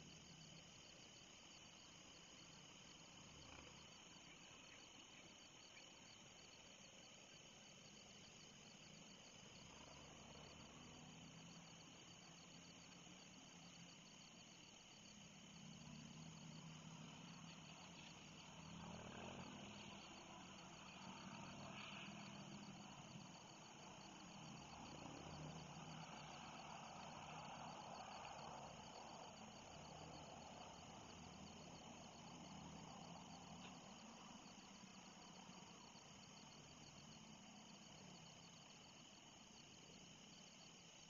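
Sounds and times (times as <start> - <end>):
crickets trilling: 0.0 - 41.0.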